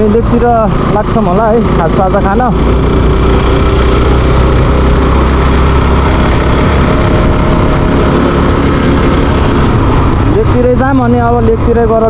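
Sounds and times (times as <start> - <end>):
loud low rumble: 0.0 - 12.0
motorcycle engine running: 0.0 - 12.0.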